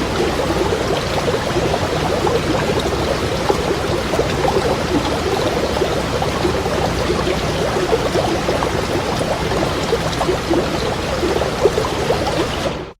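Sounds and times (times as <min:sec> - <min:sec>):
stream babbling over stones: 0:00.0 - 0:12.9.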